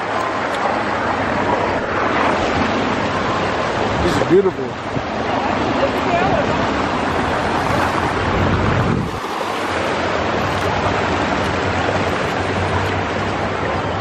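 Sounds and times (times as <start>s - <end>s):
ocean surf washing: 0.0s - 14.0s
wind buffeting microphone: 0.8s - 14.0s.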